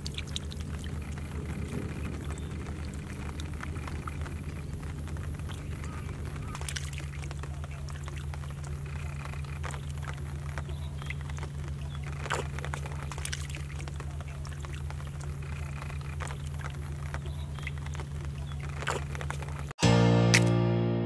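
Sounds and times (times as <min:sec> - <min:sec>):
fish splashing in water: 0:00.0 - 0:19.7.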